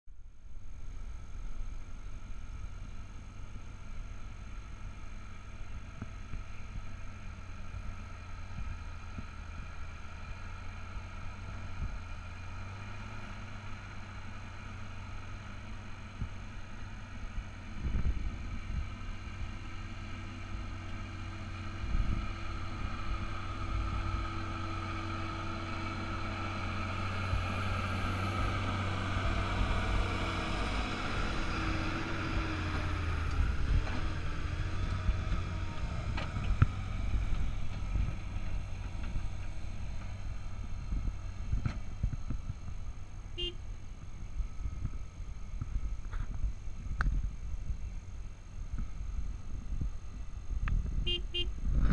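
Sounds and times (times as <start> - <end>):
tractor diesel engine running: 0.2 - 51.9
low bumps: 5.7 - 51.9.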